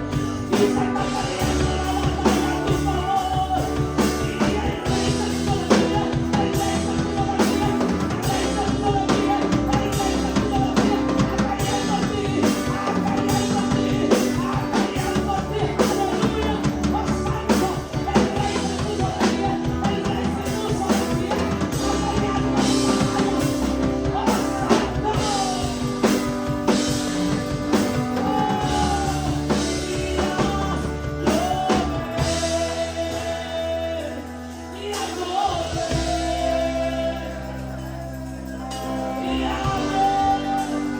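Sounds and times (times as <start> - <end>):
drum kit beat: 0.0 - 38.1
band playing worship music: 0.0 - 40.9
person singing: 0.0 - 40.9.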